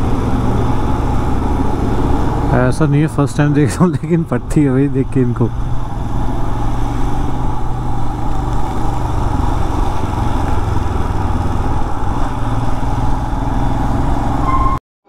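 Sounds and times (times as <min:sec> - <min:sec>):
motorcycle engine running: 0:00.0 - 0:14.8
road and air noise: 0:00.0 - 0:14.8.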